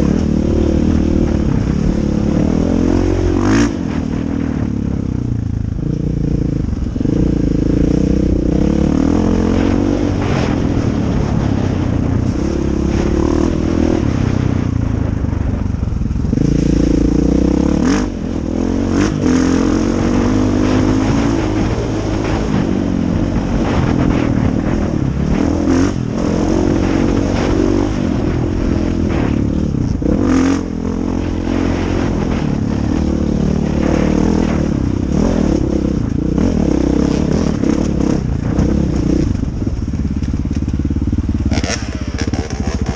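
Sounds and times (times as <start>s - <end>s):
dirt bike engine revving: 0.0s - 14.7s, 16.2s - 39.6s, 40.8s - 42.9s.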